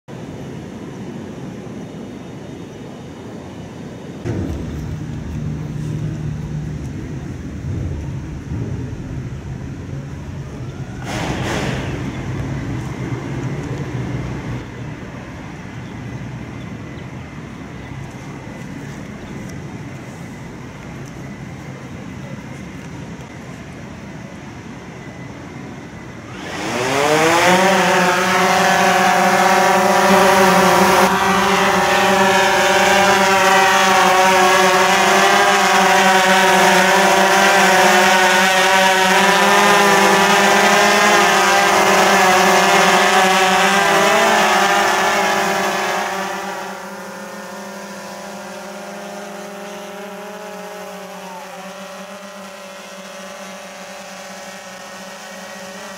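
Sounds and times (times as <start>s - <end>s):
drone propellers buzzing hum: 0.1s - 55.9s.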